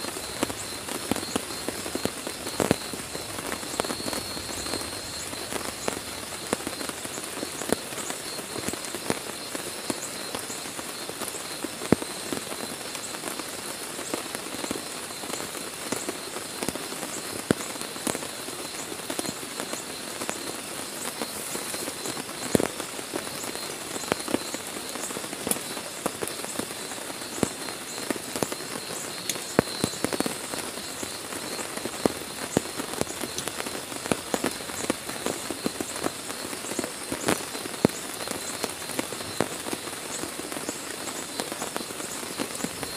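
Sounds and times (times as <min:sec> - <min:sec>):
heavy rain on a tent: 0:00.0 - 0:42.9.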